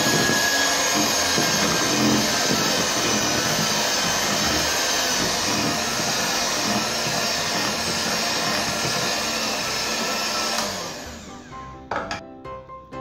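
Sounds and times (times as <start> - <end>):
electric hand mixer running: 0.0 - 11.8.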